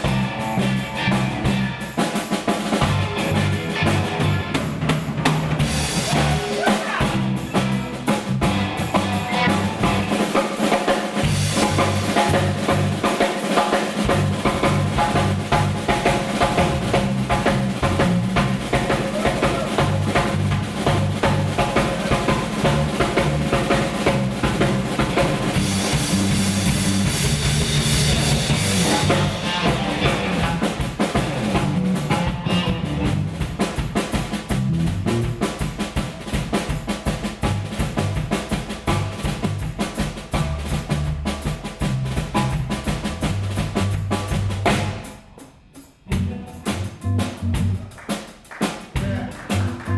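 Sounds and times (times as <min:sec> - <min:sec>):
bass line: 0:00.0 - 0:02.0, 0:02.7 - 0:10.4, 0:11.2 - 0:13.1, 0:14.0 - 0:36.3, 0:37.4 - 0:45.0, 0:46.1 - 0:48.0, 0:49.0 - 0:49.9
drum kit beat: 0:00.0 - 0:49.9.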